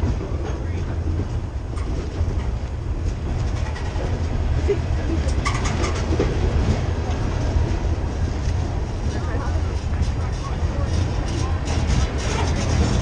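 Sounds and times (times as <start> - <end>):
freight train rumbling past: 0.0 - 13.0
wheels clacking at rail joints: 0.0 - 13.0.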